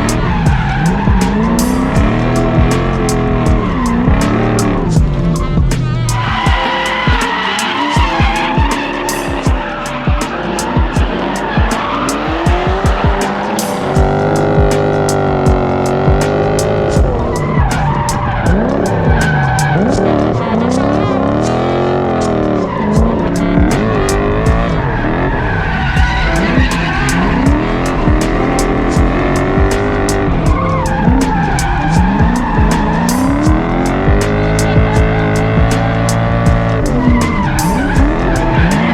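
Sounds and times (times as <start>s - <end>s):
background music with beat: 0.0s - 38.9s
engine revving: 0.0s - 38.9s
tyres squealing: 0.0s - 38.9s.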